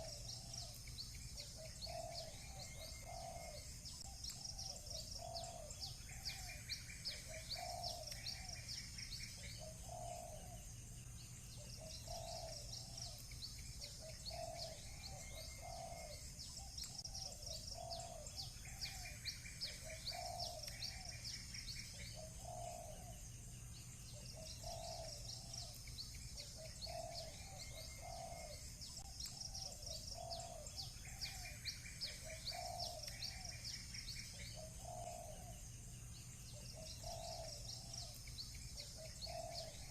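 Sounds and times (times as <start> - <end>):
bird trill: 0.0 - 39.9
small birds chirping: 0.0 - 39.9
dove cooing: 1.4 - 8.7, 9.4 - 10.6, 11.6 - 13.2, 13.8 - 23.2, 24.1 - 25.8, 26.4 - 28.6, 29.2 - 35.6, 36.5 - 38.2, 38.8 - 39.9.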